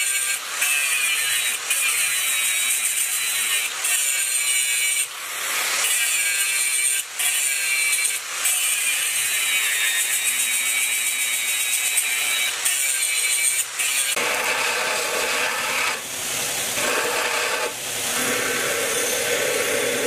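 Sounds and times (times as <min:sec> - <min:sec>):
angle grinder grinding steel: 0:00.0 - 0:20.0.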